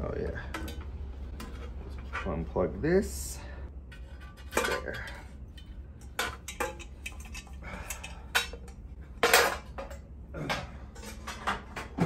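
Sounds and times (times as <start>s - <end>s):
metal motorcycle parts clattering: 0.3s - 2.6s, 3.8s - 12.0s.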